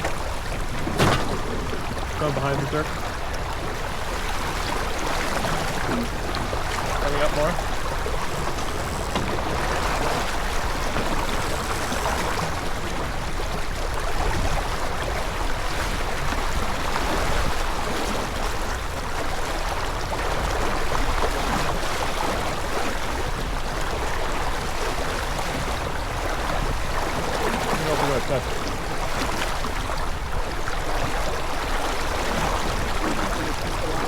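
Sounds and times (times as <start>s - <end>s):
water rushing along a hull: 0.0s - 34.0s.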